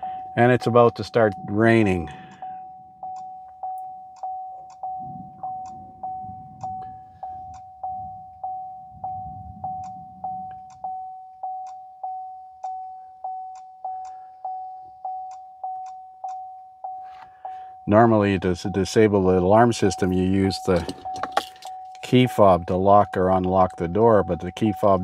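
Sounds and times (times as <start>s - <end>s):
warning chime dinging: 0.0s - 25.0s.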